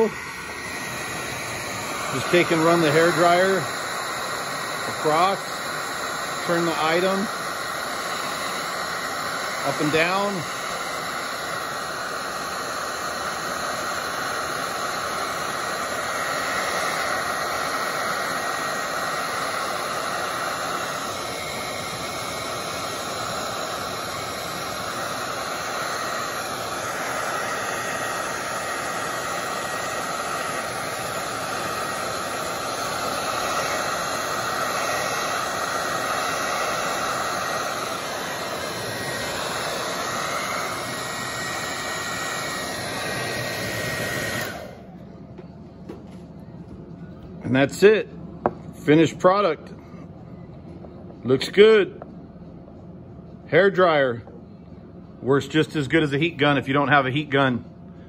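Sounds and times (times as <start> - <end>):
hair dryer blowing: 0.0 - 50.0, 55.2 - 57.5.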